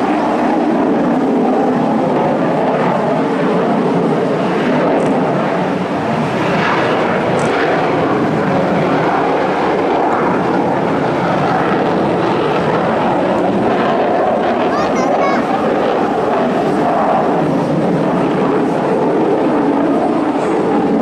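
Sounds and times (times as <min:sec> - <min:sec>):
fighter jet roaring: 0:03.1 - 0:21.0.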